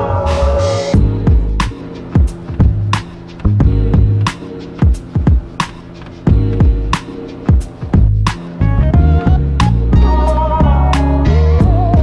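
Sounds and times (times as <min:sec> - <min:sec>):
deep bass line: 0:00.0 - 0:05.6, 0:06.3 - 0:12.0
drum beat: 0:00.9 - 0:10.8.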